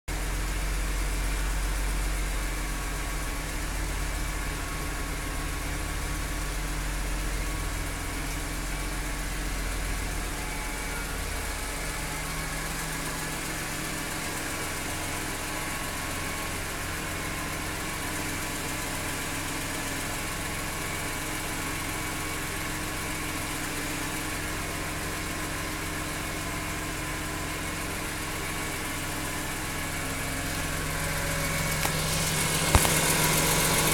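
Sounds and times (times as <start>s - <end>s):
car engine idling: 0.1s - 33.9s
engine ticking: 0.1s - 33.9s.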